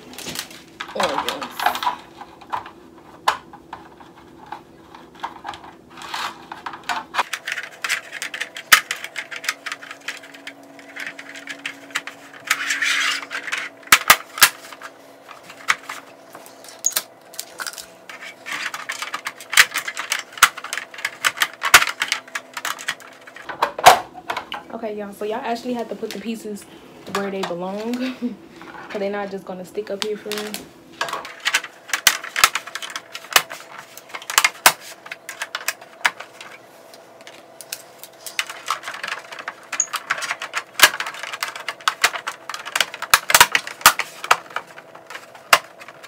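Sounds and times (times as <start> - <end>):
plastic rustling: 0.0 - 24.5, 27.0 - 46.0
plastic covers clicking: 0.0 - 24.6, 29.9 - 46.0.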